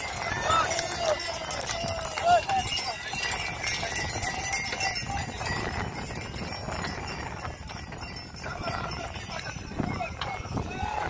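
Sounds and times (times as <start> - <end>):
crowd chattering: 0.0 - 11.0
hooves on dry ground: 0.0 - 11.0.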